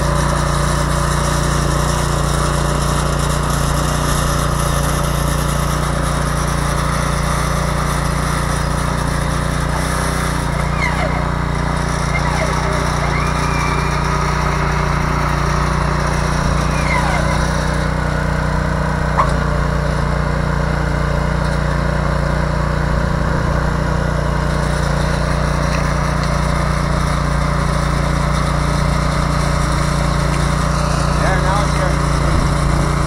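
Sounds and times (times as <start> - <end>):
tiller engine running: 0.0 - 33.0.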